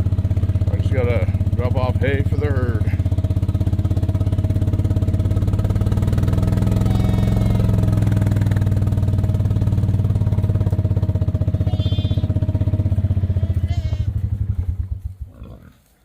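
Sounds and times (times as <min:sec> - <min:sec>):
vehicle engine running: 0:00.0 - 0:15.5.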